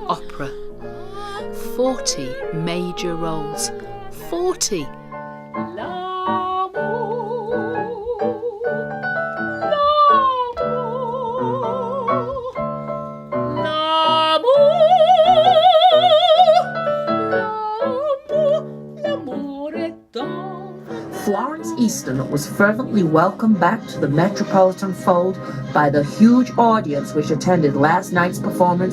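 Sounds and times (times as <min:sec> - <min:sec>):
soprano singing operatic phrase: 0:00.0 - 0:08.9, 0:13.6 - 0:28.9
piano accompaniment: 0:00.0 - 0:28.9.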